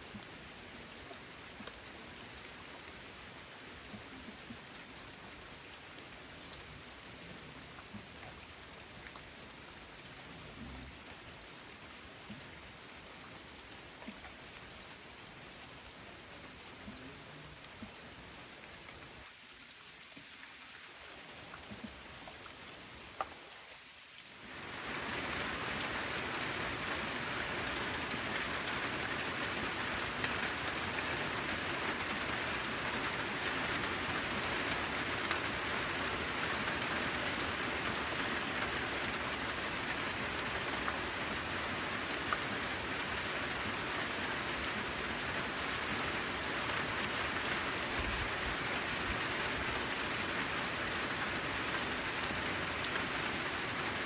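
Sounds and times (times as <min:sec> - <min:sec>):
rain on a metal roof: 0:00.0 - 0:54.0.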